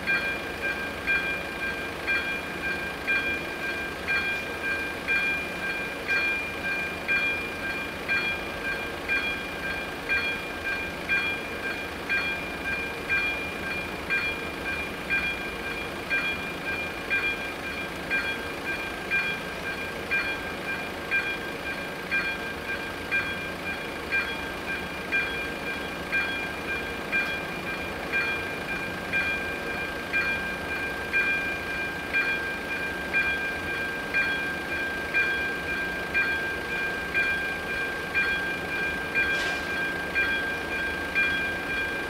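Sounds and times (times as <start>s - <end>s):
level crossing warning bell ringing: 0.0s - 42.0s.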